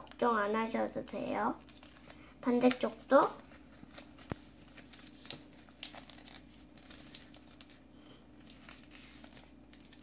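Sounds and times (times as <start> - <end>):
paper rustling and crinkling: 1.6 - 10.0.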